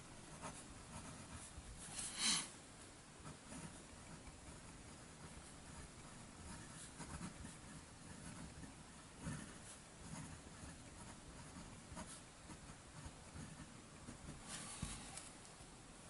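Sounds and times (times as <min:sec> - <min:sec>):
pen nib scratching on paper: 0:00.3 - 0:02.4, 0:03.2 - 0:15.2.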